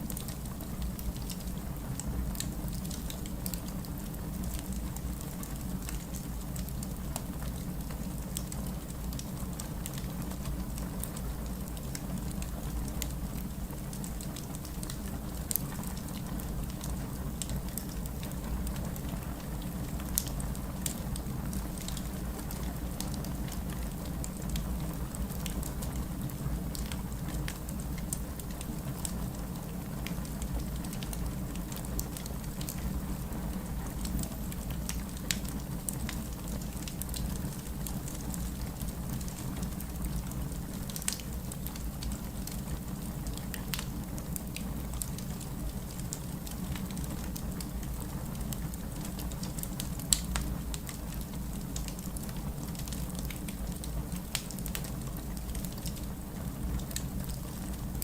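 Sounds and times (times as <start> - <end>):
wood fire crackling and popping: 0.1 - 58.0.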